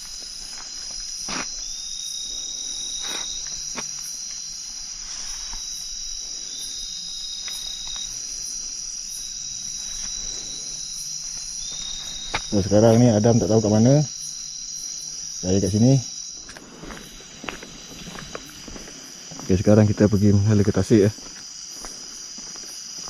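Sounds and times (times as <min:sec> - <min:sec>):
night insects trilling: 0:00.0 - 0:23.0
short high insect call: 0:00.0 - 0:23.0.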